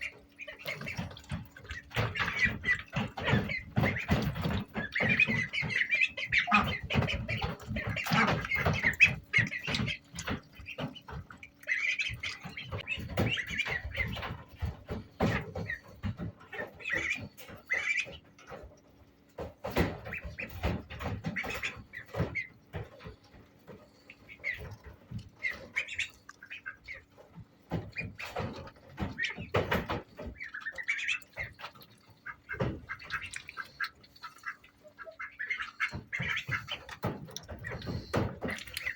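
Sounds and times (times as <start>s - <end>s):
ducklings peeping: 0.0s - 38.9s
knocks and scrapes: 0.0s - 38.9s.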